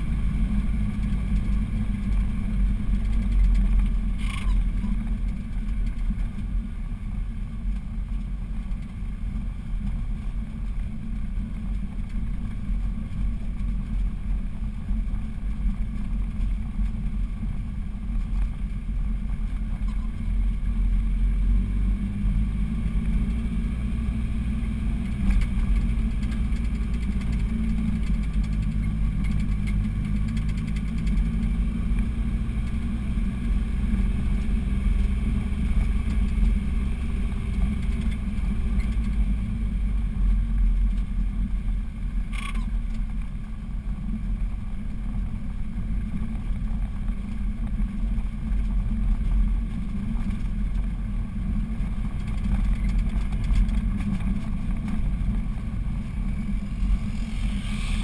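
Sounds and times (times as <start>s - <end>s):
car engine under load: 0.0s - 58.0s.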